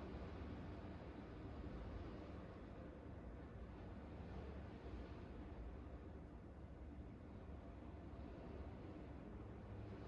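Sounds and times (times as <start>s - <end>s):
faint ambient rumble and hiss: 0.0s - 10.0s.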